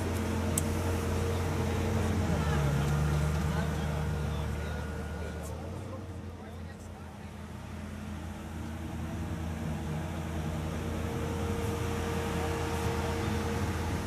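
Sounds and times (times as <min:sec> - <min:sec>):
faint crowd chatter: 0:00.0 - 0:14.0
low engine hum: 0:00.0 - 0:14.0.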